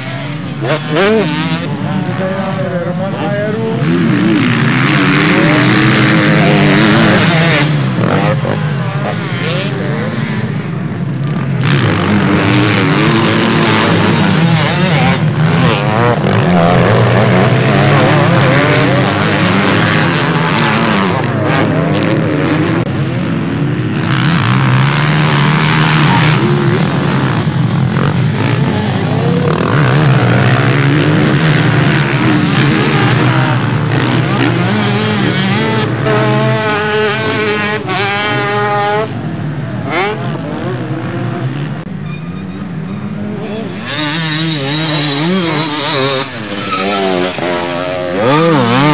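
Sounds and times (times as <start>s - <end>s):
motorcycle revving high: 0.0s - 41.8s, 43.2s - 48.9s
motocross engines racing: 0.0s - 48.9s.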